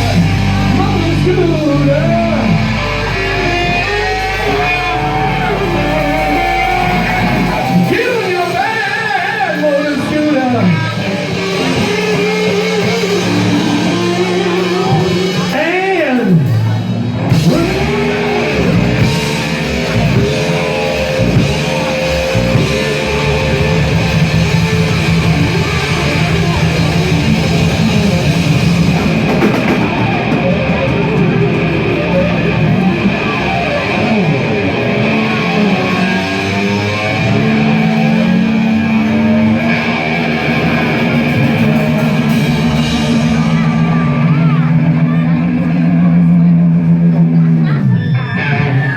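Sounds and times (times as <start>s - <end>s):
drum kit: 0.0s - 47.8s
distorted electric guitar: 0.0s - 48.9s
live rock band playing: 0.0s - 48.9s.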